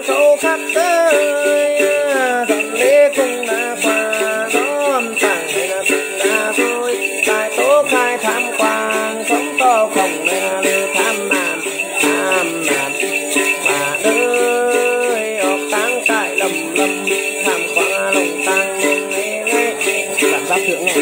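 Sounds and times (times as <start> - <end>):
man chanting: 0.0 - 21.0
plucked lute: 0.0 - 21.0
small bells jingling: 0.0 - 21.0.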